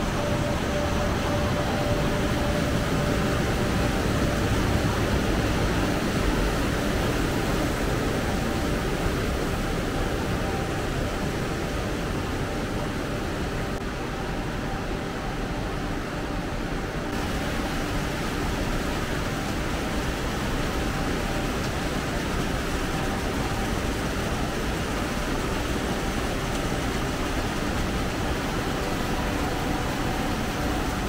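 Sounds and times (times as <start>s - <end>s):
continuous rushing noise: 0.0s - 31.0s.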